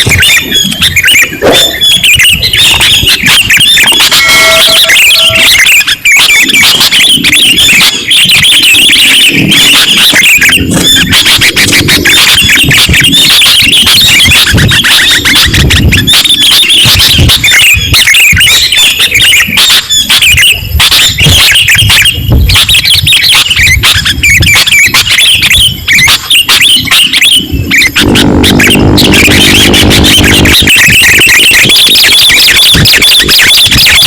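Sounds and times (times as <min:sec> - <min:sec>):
bulbuls chirping: 0:00.0 - 0:34.0.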